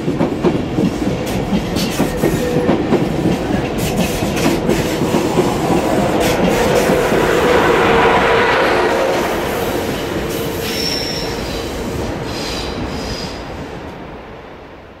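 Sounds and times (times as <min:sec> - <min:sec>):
high-speed train rolling away: 0:00.0 - 0:15.0.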